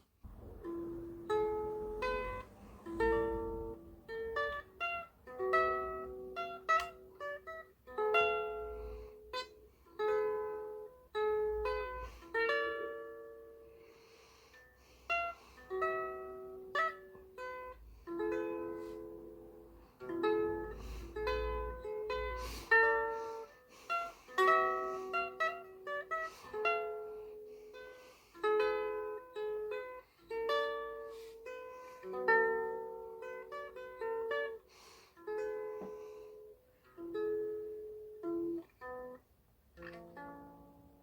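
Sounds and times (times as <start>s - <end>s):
plucked and strummed strings: 0.0s - 41.0s.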